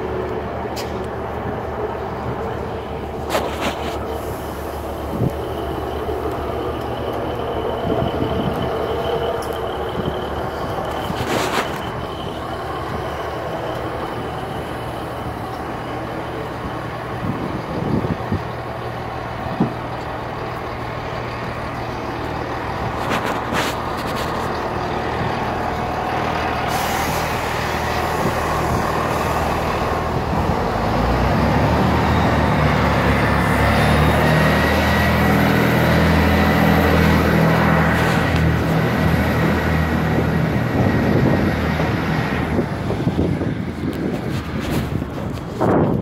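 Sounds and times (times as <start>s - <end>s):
diesel train engine humming: 0.0s - 46.0s.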